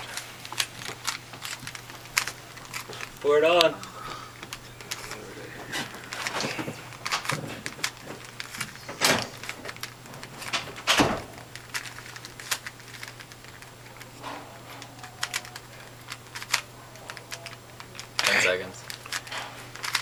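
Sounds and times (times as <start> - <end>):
puzzle cube plastic clicks: 0.0 - 20.0.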